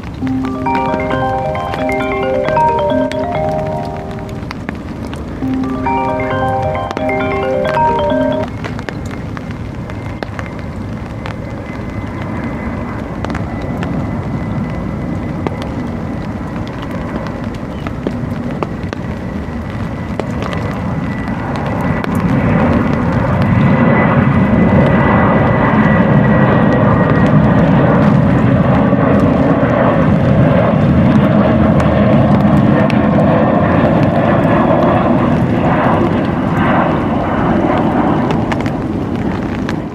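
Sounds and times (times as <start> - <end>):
airplane flying over: 0.0 - 39.9.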